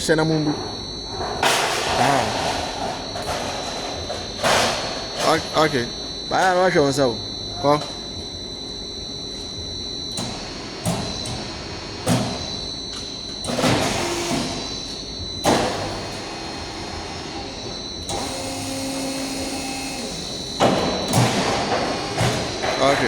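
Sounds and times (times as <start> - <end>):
machine high whine: 0.0 - 23.0.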